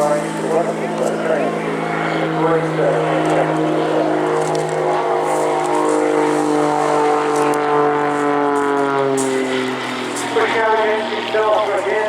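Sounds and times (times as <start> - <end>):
aircraft engine droning overhead: 0.0 - 12.0.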